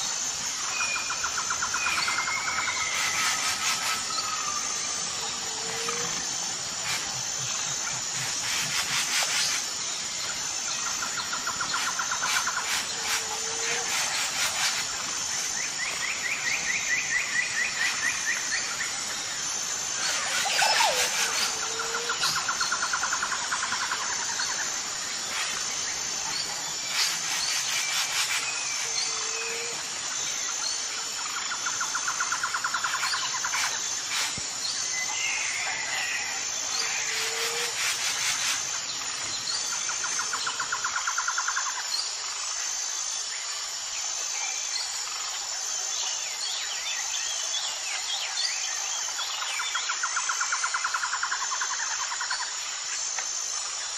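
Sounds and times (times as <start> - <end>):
high insect buzz: 0.0 - 53.9.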